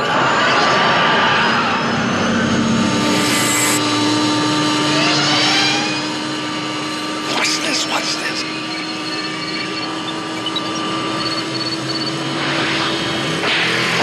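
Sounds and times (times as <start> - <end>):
rising engine-like whines: 0.0 - 14.0
steady droning tones: 0.0 - 14.0.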